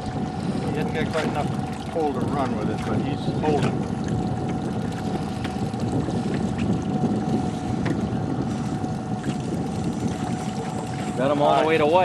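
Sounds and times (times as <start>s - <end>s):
boat motor running: 0.0s - 12.0s
wind noise on microphone: 0.0s - 12.0s.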